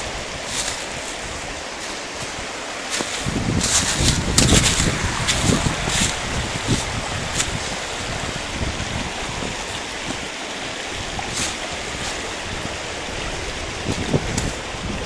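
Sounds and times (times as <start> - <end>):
river rushing over rocks: 0.0 - 15.0
wind gusting on microphone: 0.0 - 15.0.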